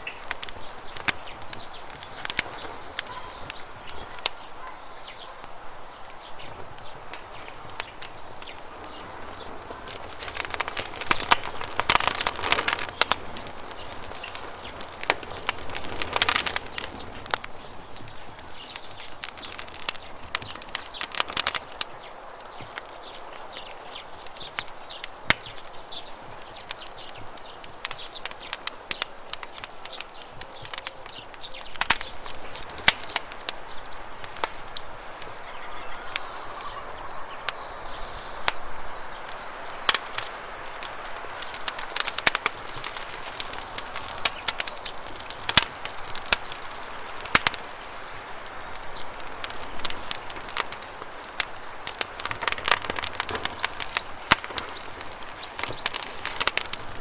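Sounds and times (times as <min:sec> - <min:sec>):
bird chirping: 0:00.0 - 0:46.9
campfire crackling and popping: 0:00.0 - 0:57.0.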